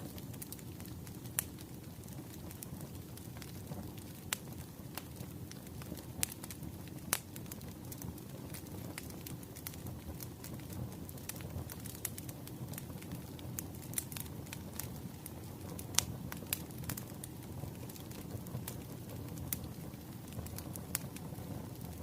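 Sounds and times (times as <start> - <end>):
fire low rumble: 0.0 - 22.0
firewood crackling and popping: 0.0 - 22.0.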